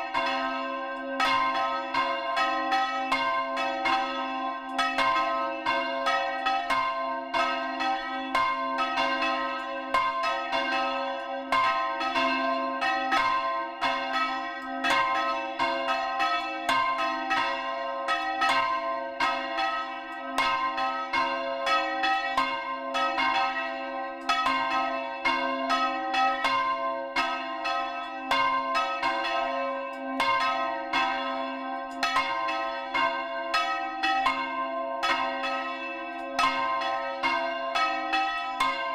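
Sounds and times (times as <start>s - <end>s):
church bells clanging: 0.0s - 38.9s.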